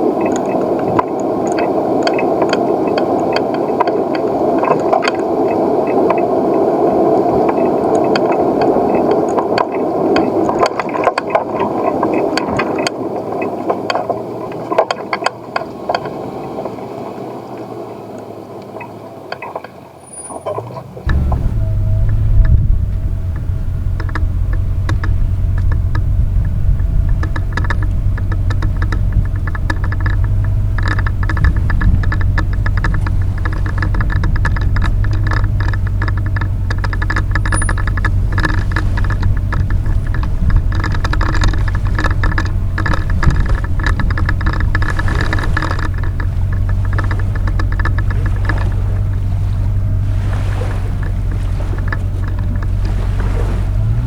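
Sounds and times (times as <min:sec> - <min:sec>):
boat hull rattling: 0:00.0 - 0:54.0
outboard motor running: 0:00.0 - 0:54.0.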